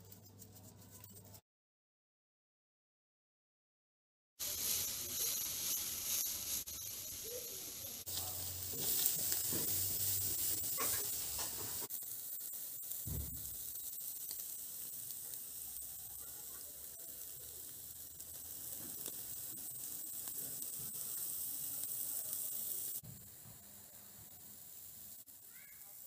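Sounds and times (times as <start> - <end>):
crackles: 4.4 - 26.0
meat sizzling over charcoal grill: 4.4 - 26.0.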